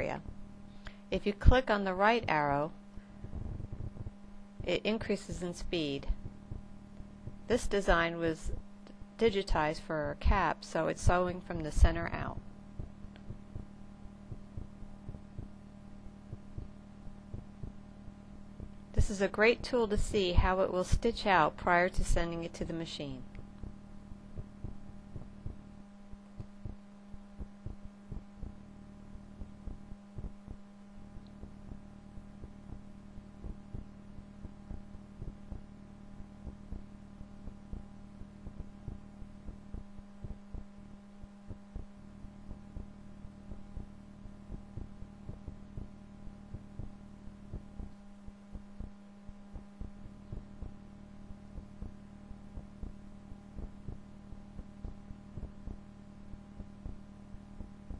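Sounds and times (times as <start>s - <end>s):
low background hum: 0.0s - 57.9s.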